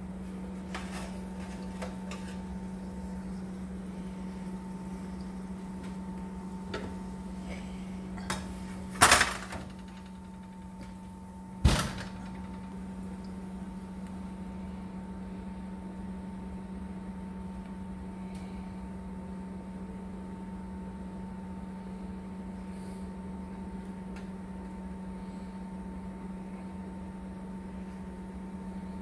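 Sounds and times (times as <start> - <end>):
appliance hum: 0.0 - 29.0.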